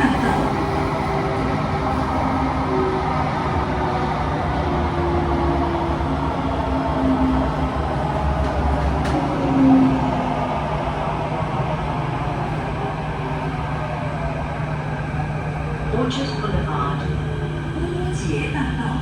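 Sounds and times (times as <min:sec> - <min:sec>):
metro car rumble and hum: 0:00.0 - 0:19.0.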